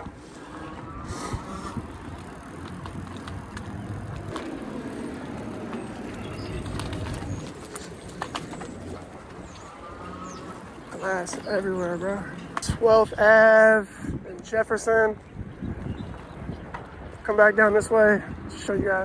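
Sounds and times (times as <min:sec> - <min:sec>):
tyre and wind rumble: 0:00.0 - 0:19.0.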